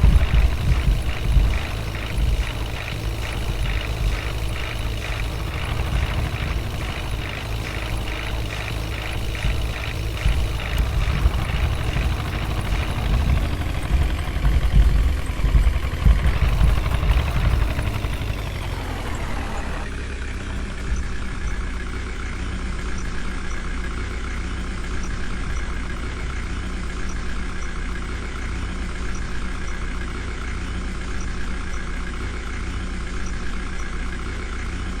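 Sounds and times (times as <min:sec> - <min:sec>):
heavy diesel engine: 0:00.0 - 0:35.0.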